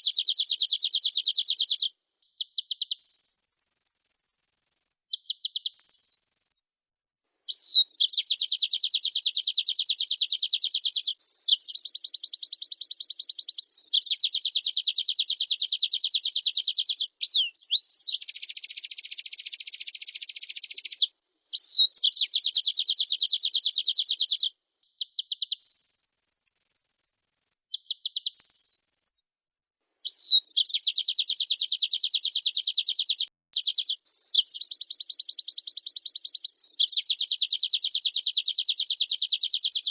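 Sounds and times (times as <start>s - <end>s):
bird singing fast trills: 0.0s - 6.6s, 7.6s - 29.2s, 30.1s - 39.9s.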